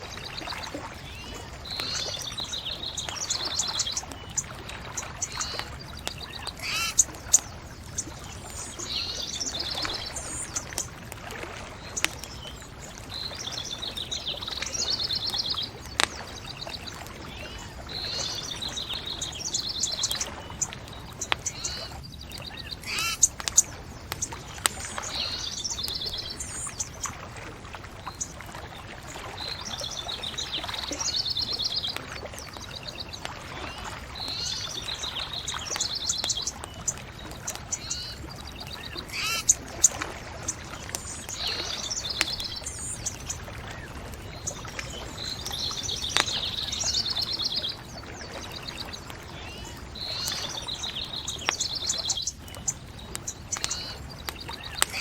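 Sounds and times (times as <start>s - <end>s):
songbird trilling: 0.0s - 10.9s, 11.8s - 27.1s, 29.4s - 55.0s
bonfire crackling: 0.0s - 55.0s.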